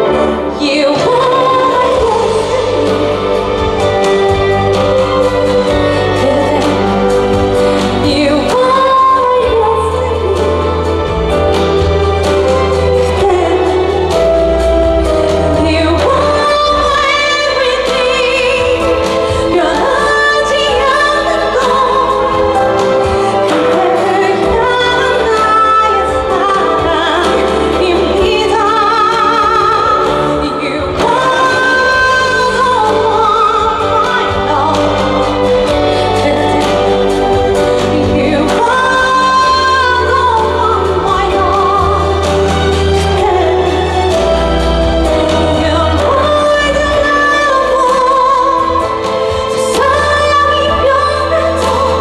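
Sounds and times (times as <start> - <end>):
band accompaniment: 0.0 - 52.0
woman singing ballad: 0.0 - 52.0.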